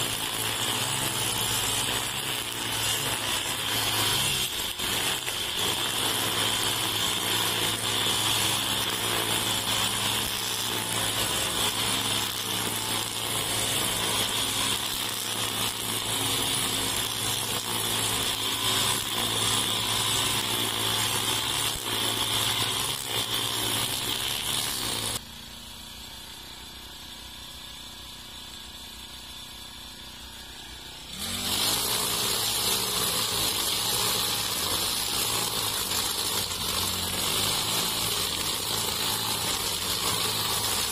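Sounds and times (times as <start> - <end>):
brush cutter cutting grass: 0.0 - 40.9.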